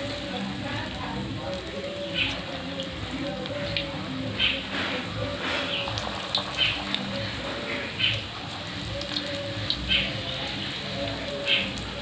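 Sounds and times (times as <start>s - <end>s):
oil crackling: 0.0s - 12.0s
okra deep-frying in oil: 0.0s - 12.0s.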